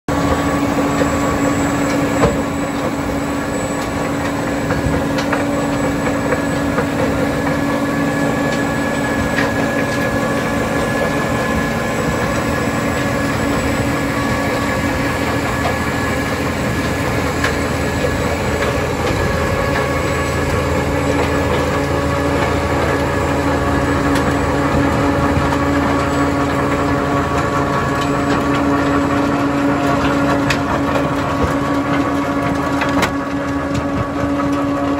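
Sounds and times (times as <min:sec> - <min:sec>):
stone crusher rotor running: 0:00.1 - 0:34.9
tractor engine under load: 0:00.1 - 0:34.9.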